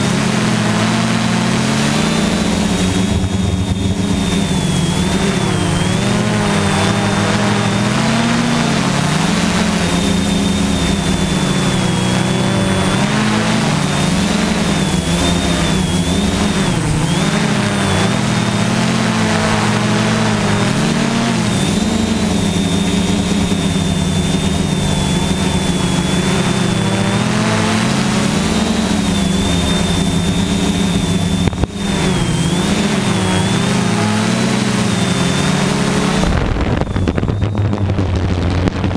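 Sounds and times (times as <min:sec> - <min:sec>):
drone propellers buzzing with high whine: 0:00.0 - 0:38.9.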